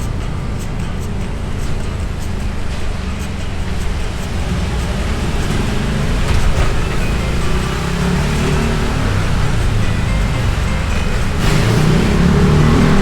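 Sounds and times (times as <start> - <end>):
motorbike engine: 0.0 - 13.0
traffic: 0.0 - 13.0
wind and road noise: 0.0 - 13.0.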